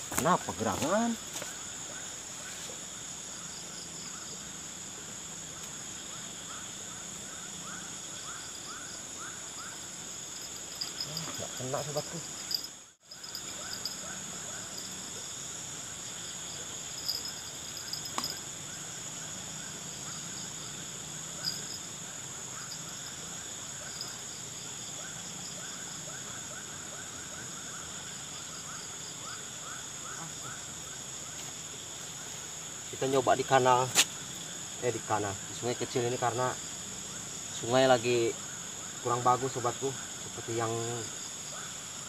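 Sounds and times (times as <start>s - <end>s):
crickets trilling: 0.0s - 42.0s
frogs calling: 0.0s - 42.0s.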